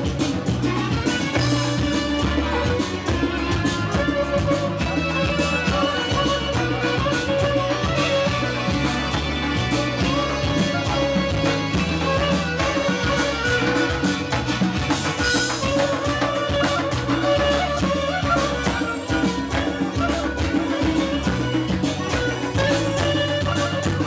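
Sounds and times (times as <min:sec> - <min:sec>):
clarinet melody: 0:00.0 - 0:24.0.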